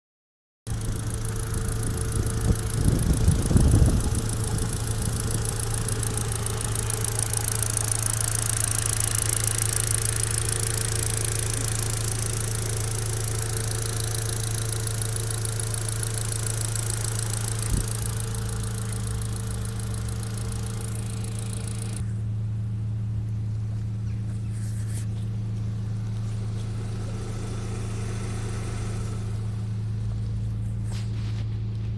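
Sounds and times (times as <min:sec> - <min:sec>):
car engine running with slight knock: 0:00.7 - 0:31.9.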